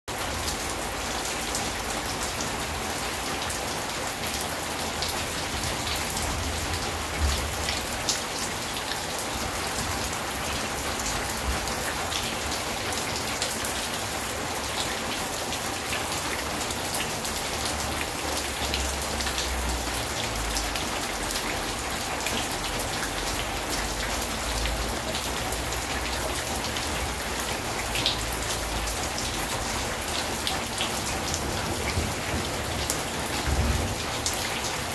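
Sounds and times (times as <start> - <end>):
rain on a sheet metal roof: 0.1 - 34.9.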